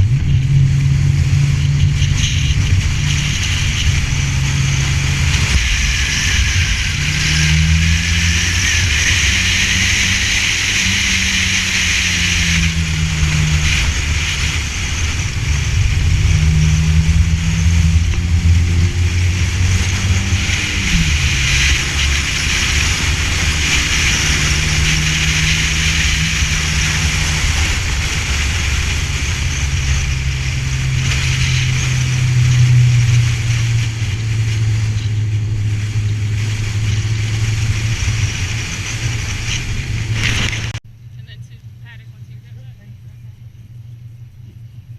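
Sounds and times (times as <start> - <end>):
small car engine racing: 0.0 - 40.8
tyre and wind noise: 0.0 - 41.3.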